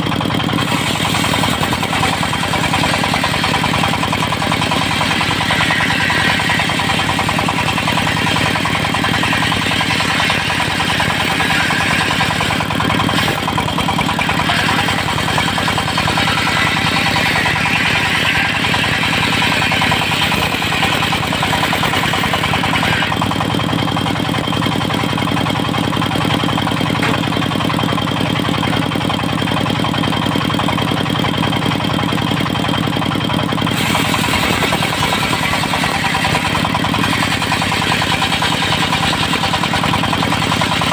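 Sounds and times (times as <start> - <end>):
diesel engine running: 0.0 - 40.9
saw blade whining through wood: 0.0 - 40.9.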